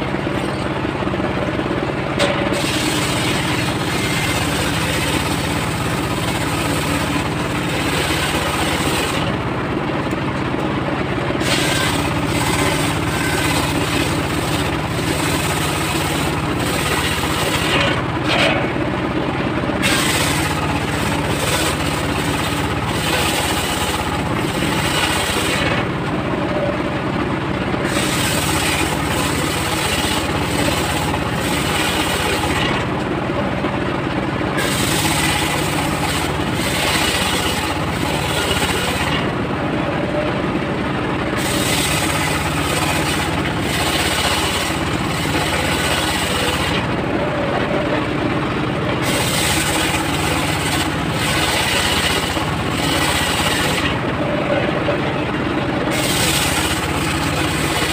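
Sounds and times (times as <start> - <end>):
engine drone: 0.0 - 57.9.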